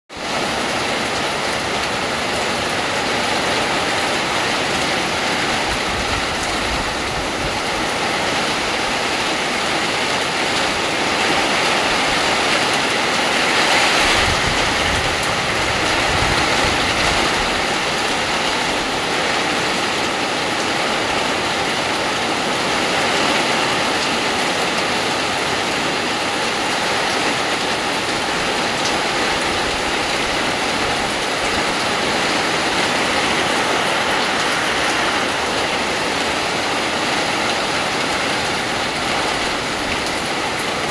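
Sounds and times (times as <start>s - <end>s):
heavy rain pouring: 0.1s - 40.9s.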